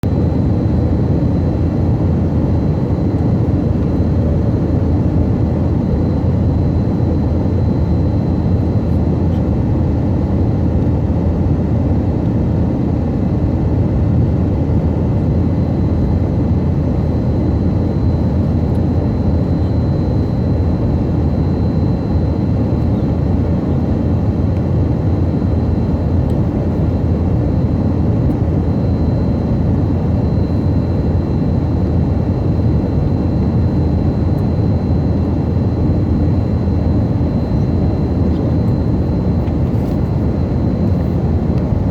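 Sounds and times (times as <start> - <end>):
airliner cabin engine and airflow noise: 0.0 - 41.9
faint high whine: 0.0 - 41.9.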